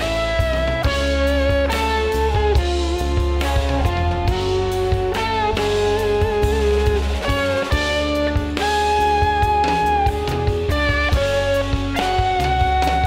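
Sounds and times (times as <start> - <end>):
gliding electric guitar melody: 0.0 - 13.0
jazz-rock band music: 0.0 - 13.0.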